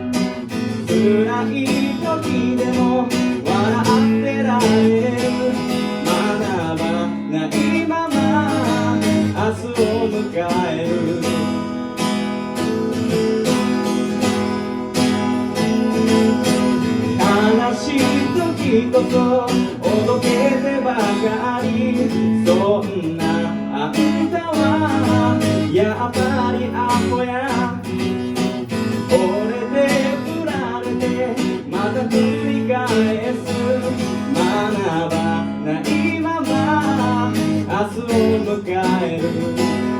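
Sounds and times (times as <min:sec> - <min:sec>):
strummed acoustic guitar: 0:00.0 - 0:39.9.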